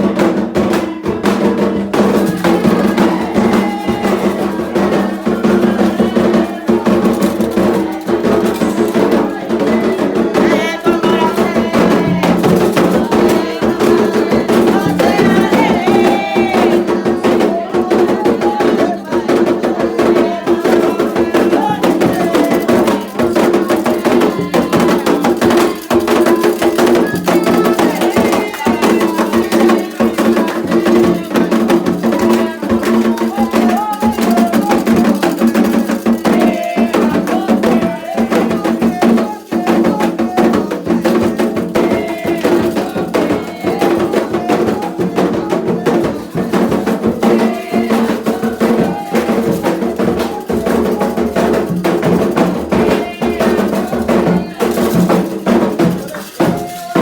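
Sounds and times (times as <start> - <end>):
group singing chants: 0.0 - 57.0
hand drums beating: 0.0 - 57.0.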